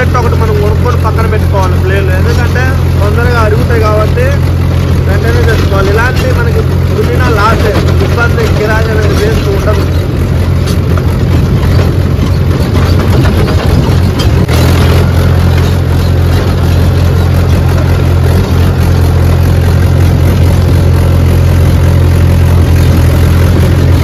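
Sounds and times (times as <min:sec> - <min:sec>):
tractor diesel engine drone: 0:00.0 - 0:24.0.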